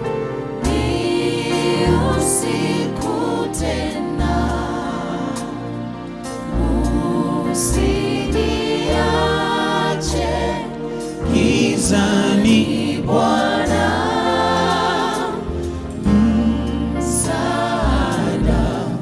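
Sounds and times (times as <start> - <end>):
band playing gospel music: 0.0 - 19.0
group of voices singing in harmony: 0.0 - 19.0.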